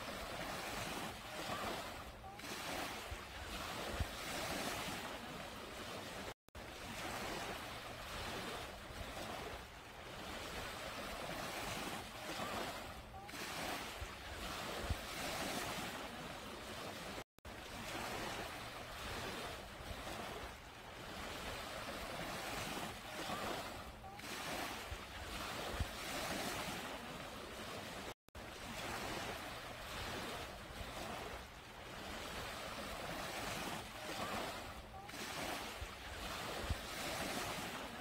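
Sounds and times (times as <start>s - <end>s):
waves washing onto beach: 0.0s - 38.0s.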